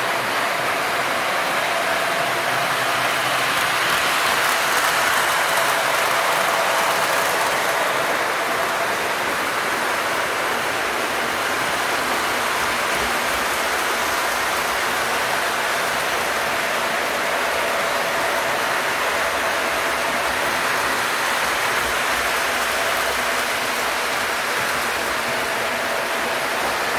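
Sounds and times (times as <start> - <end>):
model train wheels rattling on rails: 0.0 - 26.9.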